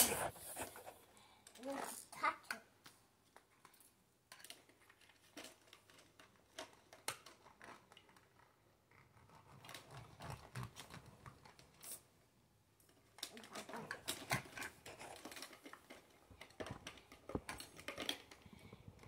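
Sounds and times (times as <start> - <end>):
plastic toys clicking and knocking: 1.4 - 12.0, 12.8 - 19.0.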